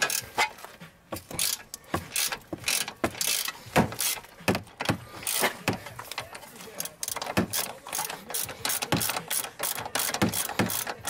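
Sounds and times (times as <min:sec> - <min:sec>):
hand ratchet clicking: 0:00.0 - 0:00.5, 0:01.2 - 0:11.0.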